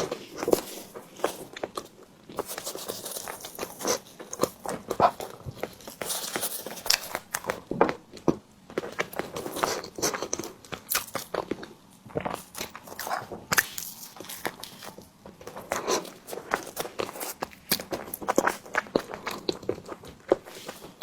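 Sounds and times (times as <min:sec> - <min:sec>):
close-miked biting and chewing: 0:00.0 - 0:21.0.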